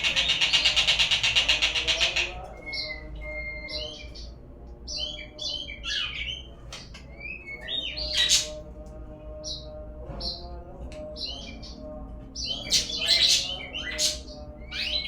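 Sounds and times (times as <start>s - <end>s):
songbird singing: 0.0s - 8.6s, 9.3s - 15.0s.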